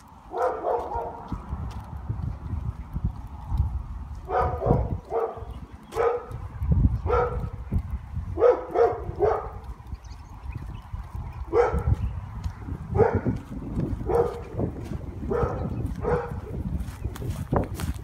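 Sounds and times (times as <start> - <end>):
low microphone rumble: 0.7 - 18.0.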